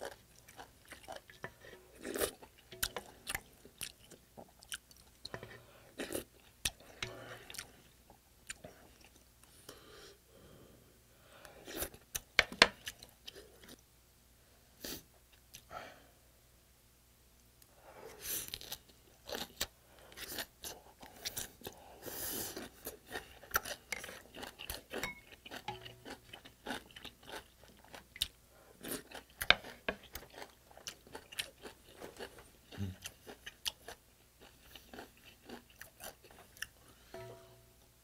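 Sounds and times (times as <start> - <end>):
chewing and crunching food: 0.0 - 9.6, 11.6 - 13.8, 18.3 - 37.1.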